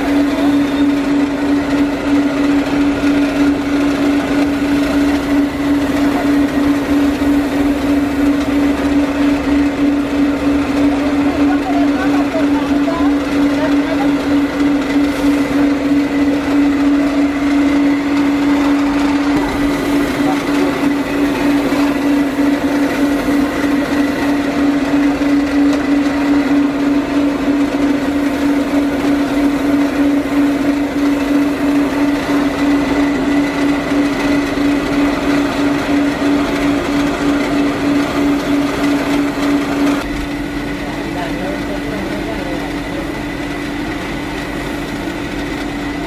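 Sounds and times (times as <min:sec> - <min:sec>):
electric motor humming: 0:00.0 - 0:46.0.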